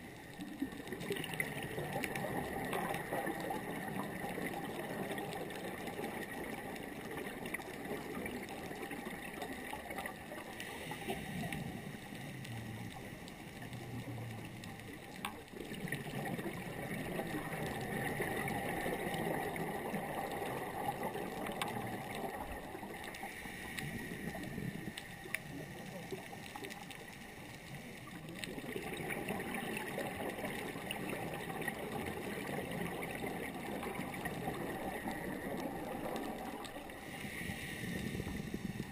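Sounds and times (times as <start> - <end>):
underwater hiss and gurgle: 0.0 - 38.9.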